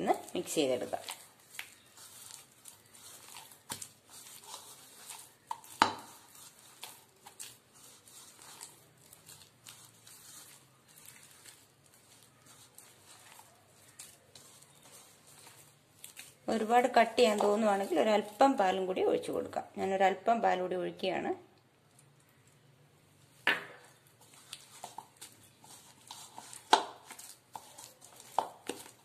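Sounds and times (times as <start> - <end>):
wet squelching of batter mixing: 0.0 - 29.0.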